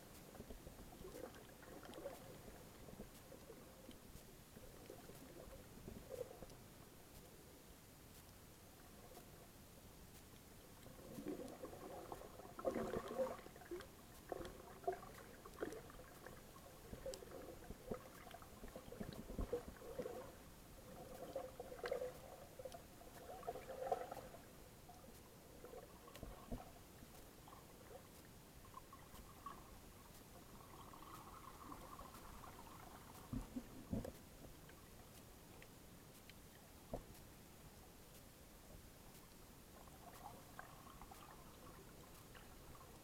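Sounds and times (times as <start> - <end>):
thin underwater clicks: 0.1 - 7.3, 10.1 - 37.3, 39.1 - 43.0.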